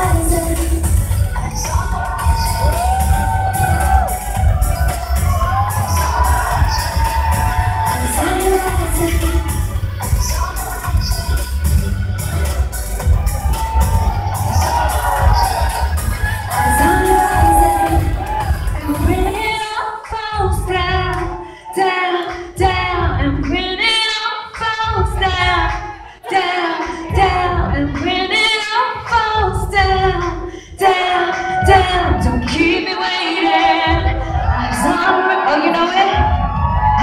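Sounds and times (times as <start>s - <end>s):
woman singing pop vocals: 0.0s - 12.3s, 14.7s - 37.0s
backing music with heavy bass: 0.0s - 21.4s, 22.3s - 37.0s.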